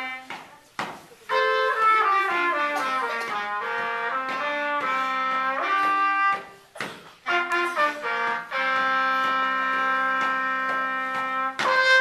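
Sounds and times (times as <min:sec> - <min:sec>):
saxophone duet: 0:01.3 - 0:06.6, 0:07.2 - 0:12.0.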